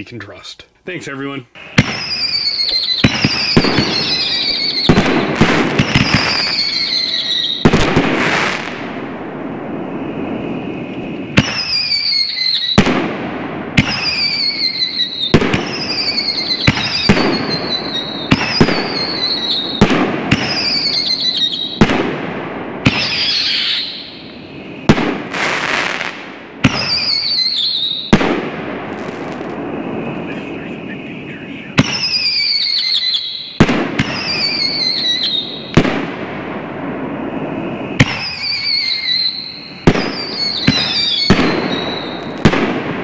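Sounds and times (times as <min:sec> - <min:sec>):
high falling firework whistles: 0:01.6 - 0:13.1, 0:13.7 - 0:22.2, 0:22.8 - 0:43.0
sharp firework bangs: 0:01.6 - 0:43.0.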